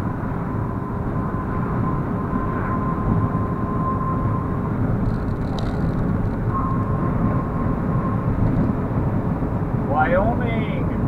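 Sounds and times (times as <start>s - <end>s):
engine and tyre road noise: 0.0s - 11.0s
faint whine: 0.0s - 11.0s.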